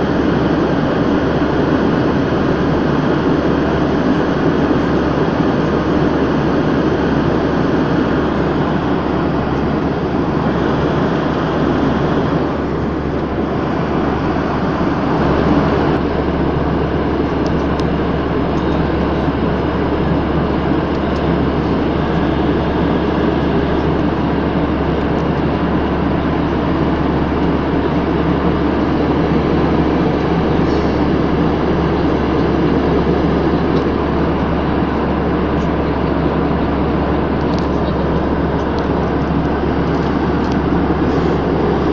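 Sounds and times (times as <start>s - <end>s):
aircraft cabin engine drone: 0.0s - 41.9s
low hum: 0.0s - 41.9s.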